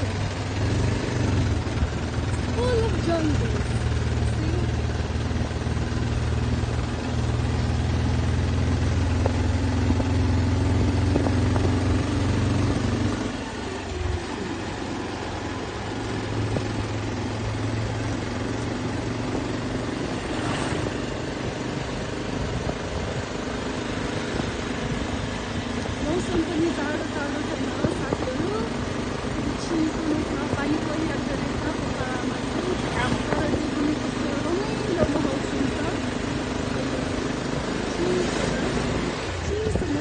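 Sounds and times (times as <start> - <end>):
road and wind noise: 0.0 - 40.0
scooter engine running: 0.0 - 40.0.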